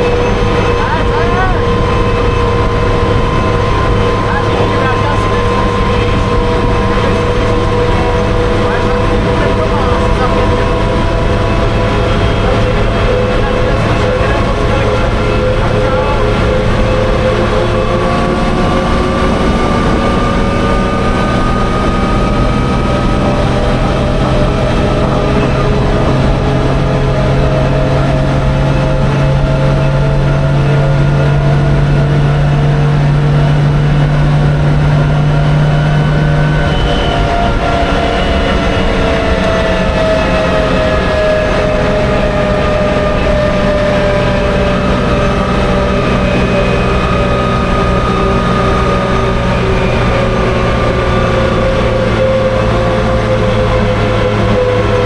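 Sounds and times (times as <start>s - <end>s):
armoured car engine running: 0.0s - 55.0s.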